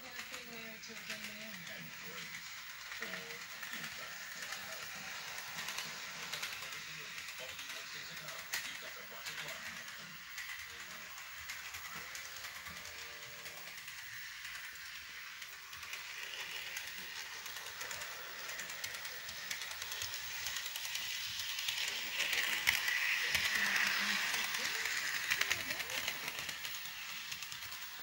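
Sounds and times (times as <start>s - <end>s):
model train whirring and clicking: 0.0s - 28.0s.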